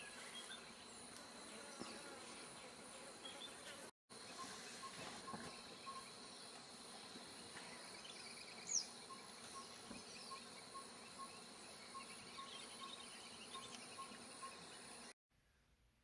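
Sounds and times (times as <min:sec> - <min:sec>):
insect and cricket chorus: 0:00.0 - 0:15.2.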